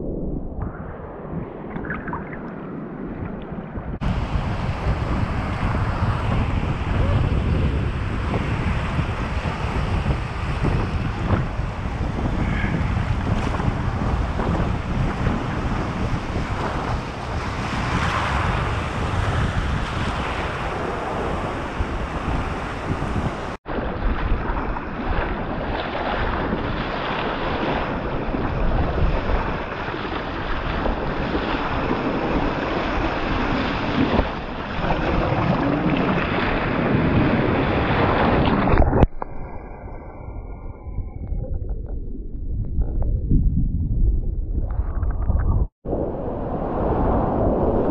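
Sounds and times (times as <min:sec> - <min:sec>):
wind buffeting microphone: 0:00.0 - 0:47.9
breaking surf: 0:00.8 - 0:39.8, 0:45.9 - 0:47.9.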